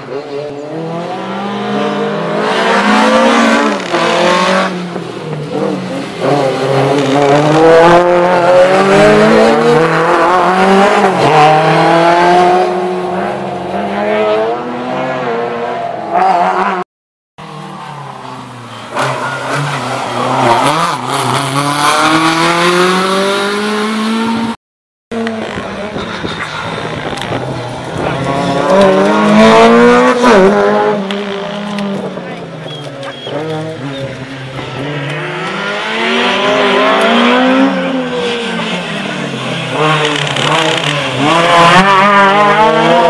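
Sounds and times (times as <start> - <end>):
rally car engines revving: 0.0 - 16.8, 17.4 - 43.0.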